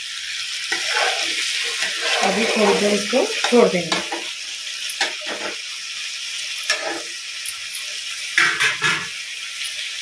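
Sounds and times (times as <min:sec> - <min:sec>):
curry sizzling in a pan: 0:00.0 - 0:10.0.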